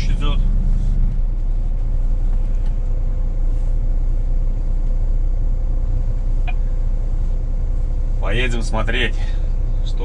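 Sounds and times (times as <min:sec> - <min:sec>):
faint steady whine: 0:00.0 - 0:10.0
truck diesel engine rumble: 0:00.0 - 0:10.0.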